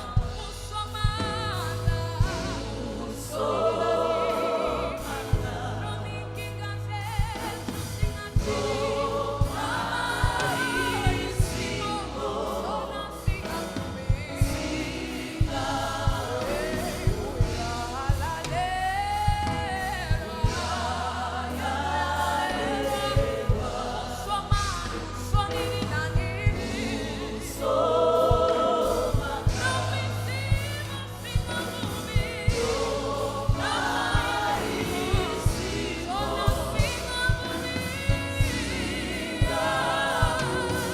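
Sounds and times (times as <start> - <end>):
bass line: 0.0 - 40.9
gospel choir singing: 0.0 - 40.9.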